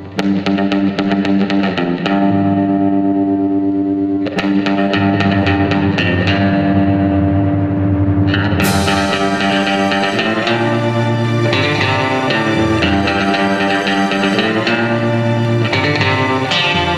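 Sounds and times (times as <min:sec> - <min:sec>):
distorted guitar and bass music: 0:00.0 - 0:16.9.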